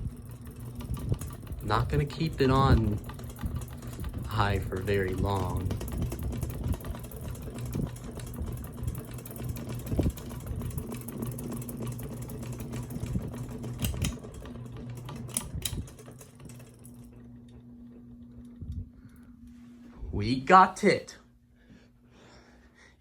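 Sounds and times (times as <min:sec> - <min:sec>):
fan rhythmic ticking: 0:00.0 - 0:19.6
ceiling fan motor hum: 0:00.0 - 0:23.0.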